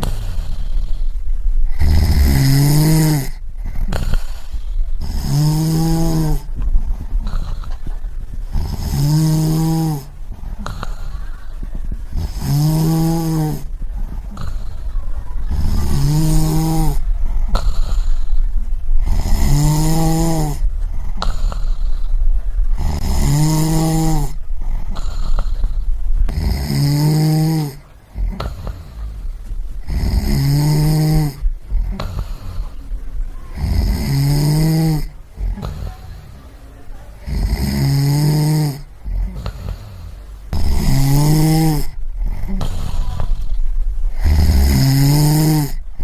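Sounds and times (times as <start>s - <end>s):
deep snoring: 0.0s - 46.0s
steady low rumble: 0.0s - 46.0s.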